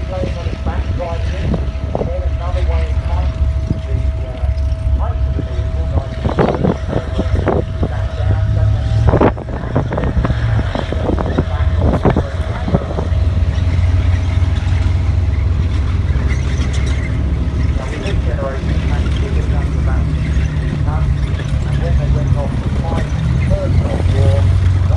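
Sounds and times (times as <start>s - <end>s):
tank engine rumble: 0.0s - 24.9s
wind buffeting microphone: 0.0s - 24.9s.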